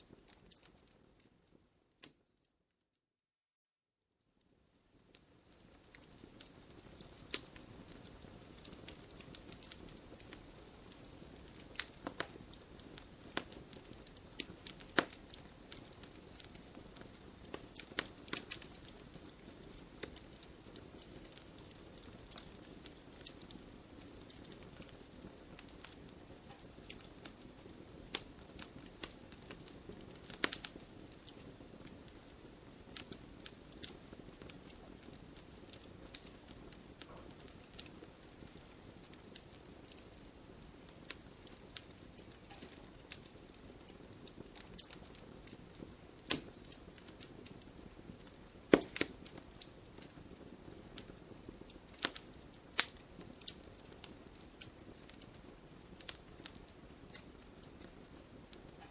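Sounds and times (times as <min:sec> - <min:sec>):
campfire crackling and popping: 0:00.0 - 0:02.3, 0:04.7 - 0:58.9.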